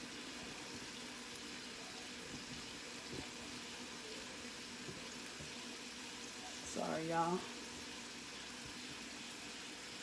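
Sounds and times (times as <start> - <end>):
faint sizzle in a pan: 0.0 - 10.0.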